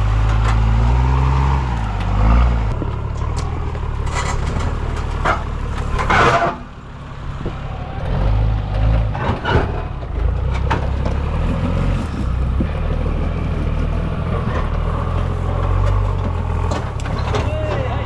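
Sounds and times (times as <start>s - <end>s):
vehicle engine running: 0.0s - 18.0s
vehicle knocks and clunks: 2.6s - 18.0s.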